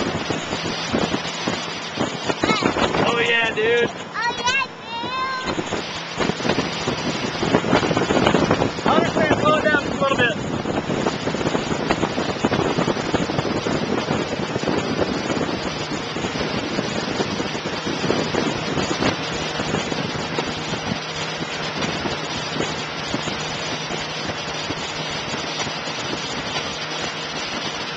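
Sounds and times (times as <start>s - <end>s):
motorboat engine hum: 0.0s - 27.9s
rush of churning wake: 0.0s - 27.9s
wind buffeting microphone: 0.0s - 27.9s.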